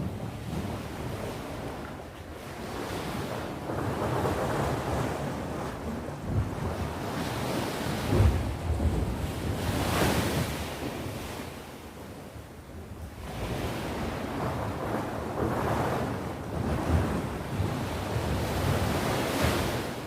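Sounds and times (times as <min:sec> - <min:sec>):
sea waves washing onto shore: 0:00.0 - 0:20.0
wind buffeting microphone: 0:00.0 - 0:20.0.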